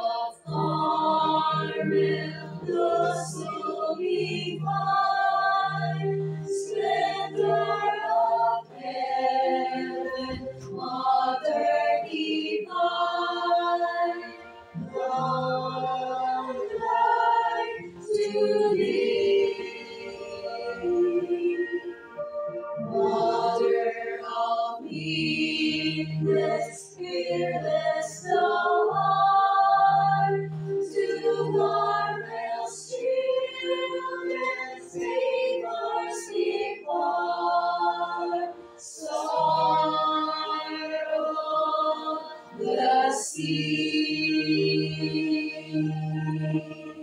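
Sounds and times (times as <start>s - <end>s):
women singing a hymn: 0.0s - 47.0s.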